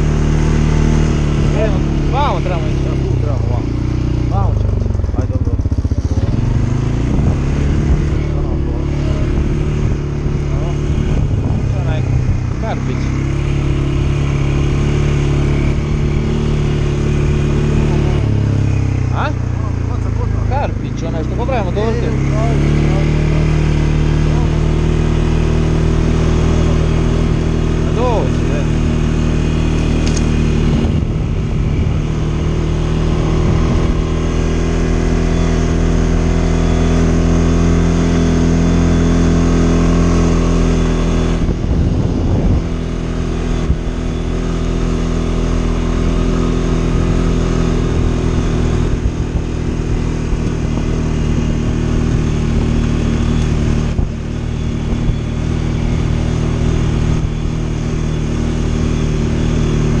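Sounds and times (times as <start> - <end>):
quad bike engine running: 0.0 - 60.0.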